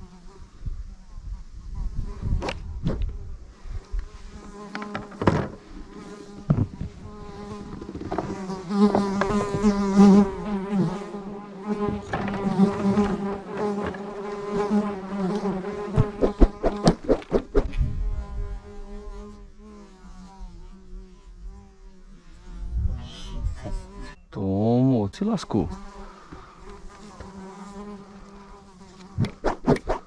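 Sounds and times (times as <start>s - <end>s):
insect buzzing: 0.0s - 24.2s, 25.5s - 30.0s.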